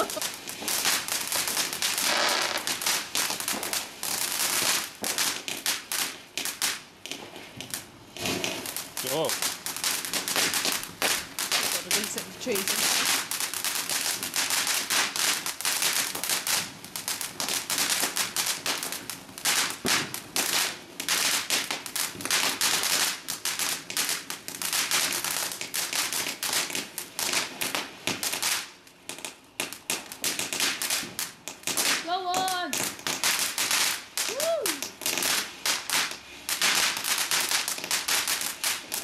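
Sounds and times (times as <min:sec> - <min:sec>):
firework fountain crackling: 0:00.0 - 0:39.0.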